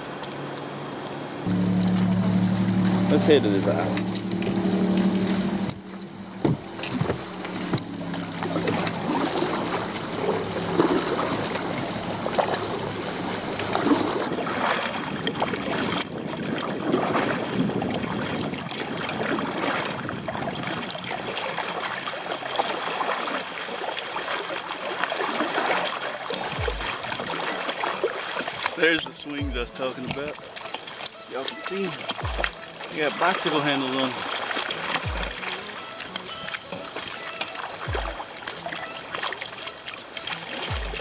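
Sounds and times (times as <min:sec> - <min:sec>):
paddle strokes splashing: 0:00.0 - 0:41.0
water lapping along hull: 0:00.0 - 0:41.0.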